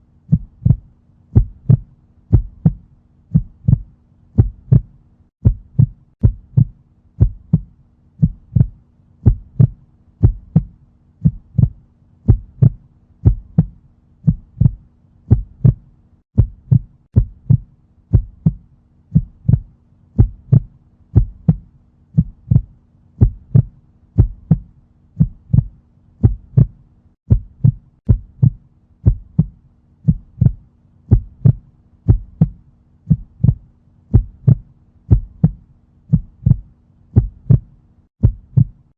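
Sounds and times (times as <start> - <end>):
heartbeat thumps: 0.3 - 38.9.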